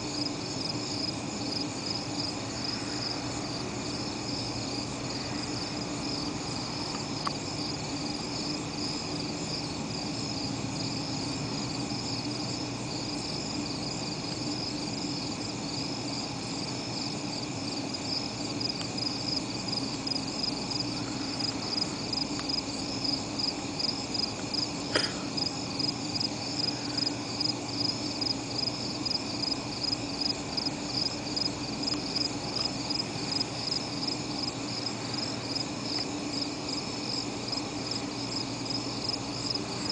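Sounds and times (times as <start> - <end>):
louder pulsing insect call: 0.0 - 39.9
night insects chirping: 0.0 - 39.9.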